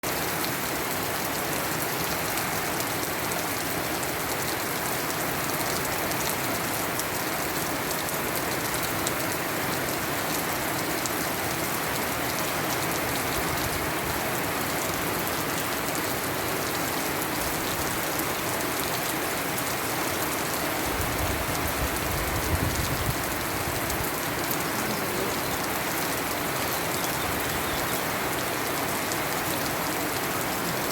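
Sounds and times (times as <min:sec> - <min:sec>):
rain pattering on surfaces: 0:00.0 - 0:30.9.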